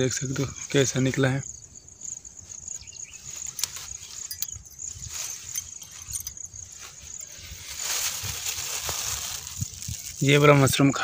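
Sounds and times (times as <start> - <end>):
grass rustling and crackling: 0.0 - 11.0
high-pitched insect drone: 0.0 - 11.0.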